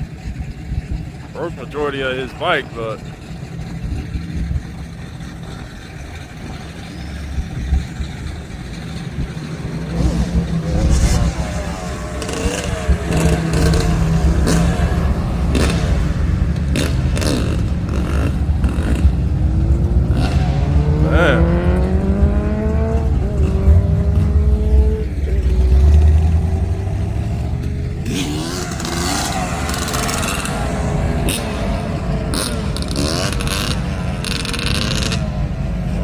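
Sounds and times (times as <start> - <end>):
vehicle engine revving: 0.0 - 36.0.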